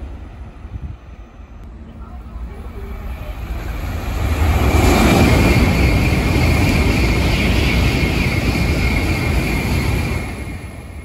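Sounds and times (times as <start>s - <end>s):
train rushing past: 0.0s - 11.0s.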